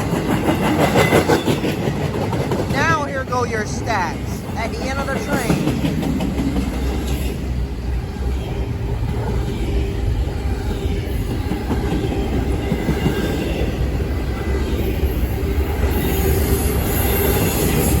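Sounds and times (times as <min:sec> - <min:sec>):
freight train wheels clattering: 0:00.0 - 0:18.0.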